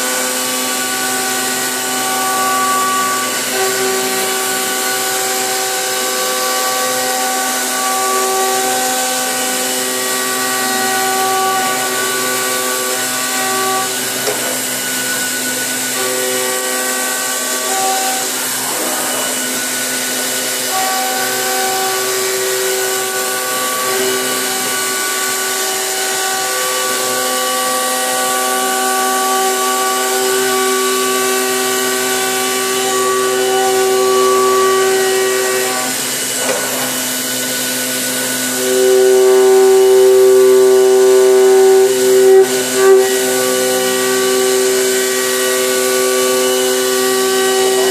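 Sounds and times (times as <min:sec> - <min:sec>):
milling machine cutting whine: 0:00.0 - 0:47.9.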